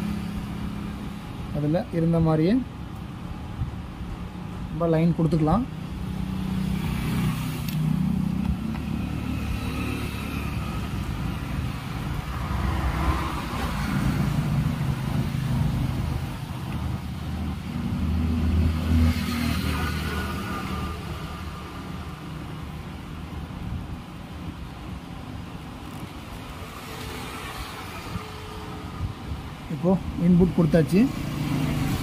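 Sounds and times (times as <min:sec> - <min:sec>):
passing vehicle engines rumbling: 0:00.0 - 0:32.0.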